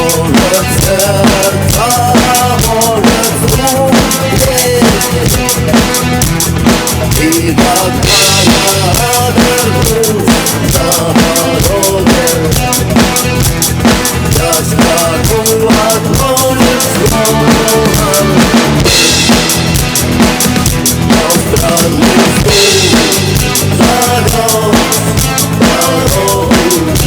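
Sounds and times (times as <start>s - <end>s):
drum kit kick and snare beat: 0.0s - 27.0s
rock backing track: 0.0s - 27.0s.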